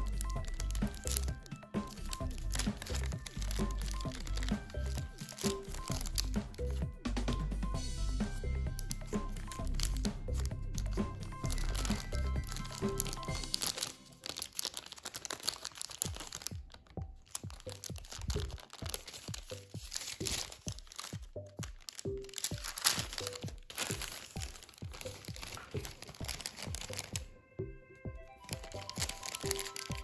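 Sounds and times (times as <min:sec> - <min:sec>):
paper crinkling as it is folded: 0:00.0 - 0:07.5, 0:08.2 - 0:27.3, 0:28.4 - 0:30.0
background music: 0:00.0 - 0:30.0.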